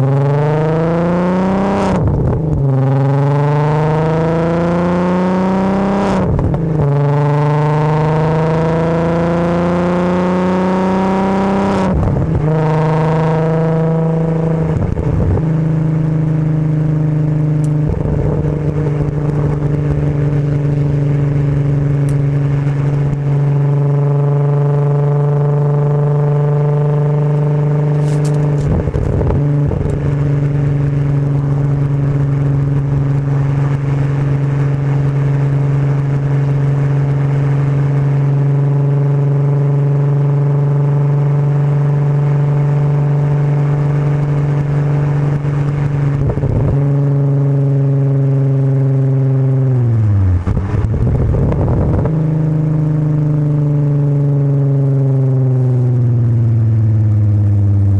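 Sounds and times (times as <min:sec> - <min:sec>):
car exhaust note: 0:00.0 - 0:57.9.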